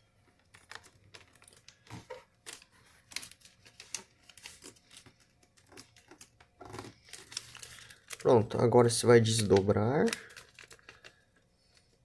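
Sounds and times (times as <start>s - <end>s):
paper crinkling while folded: 0.5s - 12.0s.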